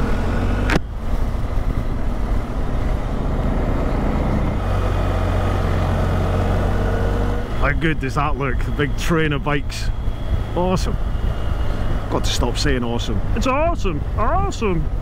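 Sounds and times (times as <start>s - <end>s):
motorcycle engine accelerating: 0.0s - 14.2s
wind rumble: 0.0s - 15.0s.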